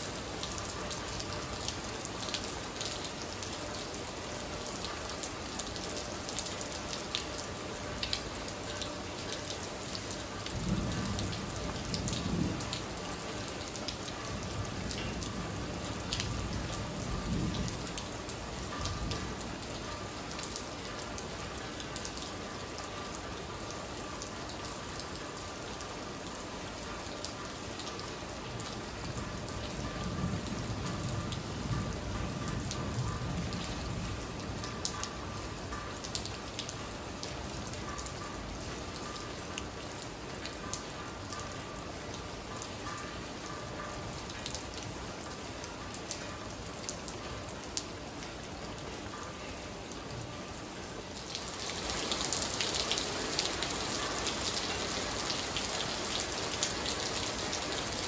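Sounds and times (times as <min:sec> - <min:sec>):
rain on tiled patio: 0:00.0 - 0:58.0.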